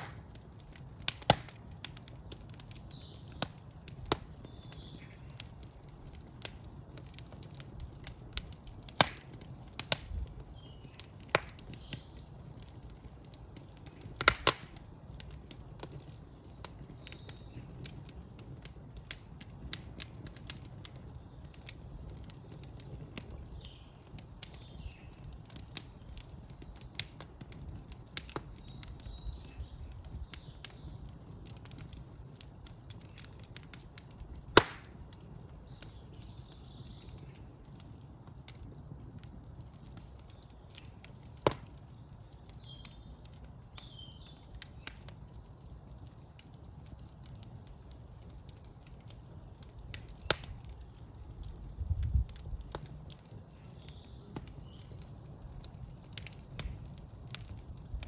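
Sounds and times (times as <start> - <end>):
low rumble of flames: 0.0 - 58.0
wood fire crackling and popping: 0.0 - 58.0.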